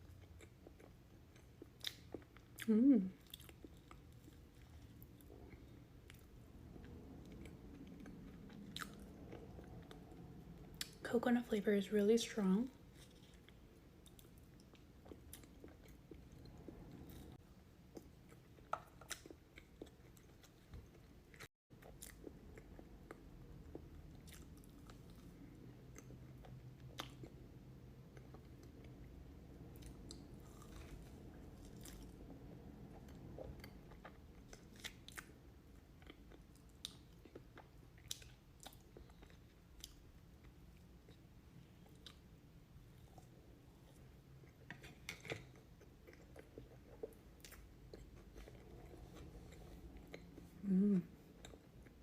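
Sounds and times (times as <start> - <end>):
faint chewing: 0.0 - 11.0, 12.8 - 27.5, 29.8 - 52.0.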